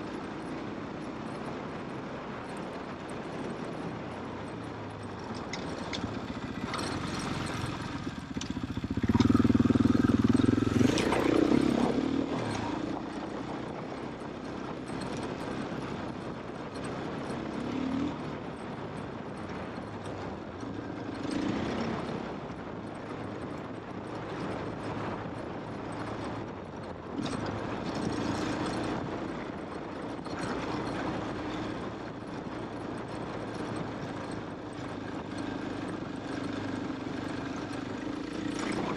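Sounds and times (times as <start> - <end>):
wind and road noise: 0.0 - 38.9
motorcycle engine revving: 4.7 - 38.9.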